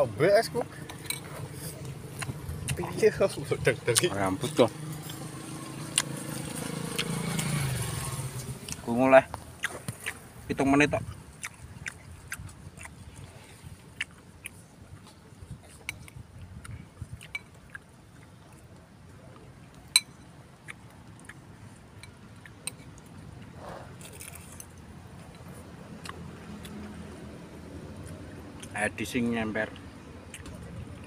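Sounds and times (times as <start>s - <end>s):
quiet chewing: 0.6s - 31.0s.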